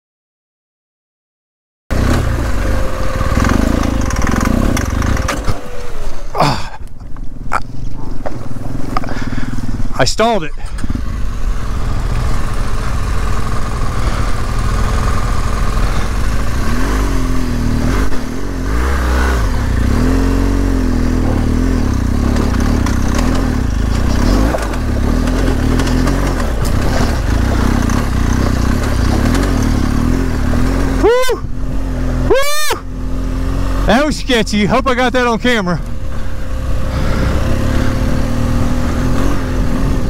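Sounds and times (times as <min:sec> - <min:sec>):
motorcycle engine revving: 0:01.9 - 0:06.8, 0:07.4 - 0:40.0.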